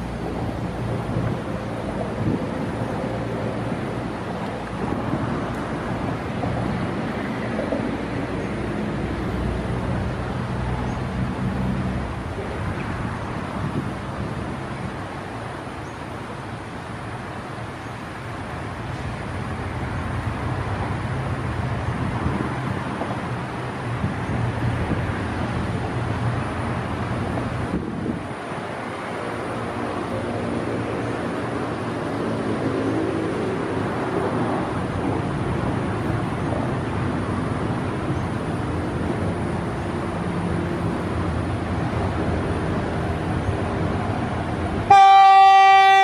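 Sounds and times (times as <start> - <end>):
locomotive engine drone: 0.0 - 46.0
wheel and rail rumble: 0.0 - 46.0.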